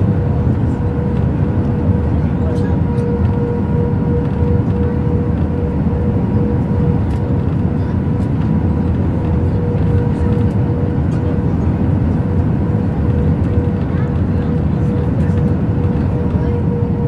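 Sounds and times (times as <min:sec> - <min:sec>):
aircraft cabin engine rumble: 0:00.0 - 0:17.0
thin steady whine: 0:00.0 - 0:17.0.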